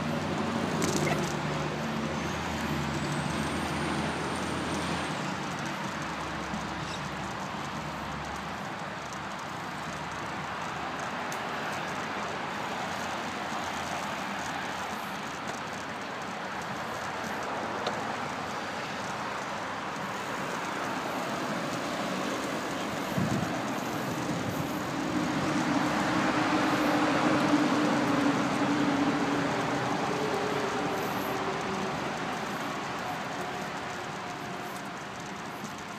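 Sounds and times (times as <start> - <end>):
bicycle riding rush: 0.0 - 35.9
cars passing: 0.0 - 35.9.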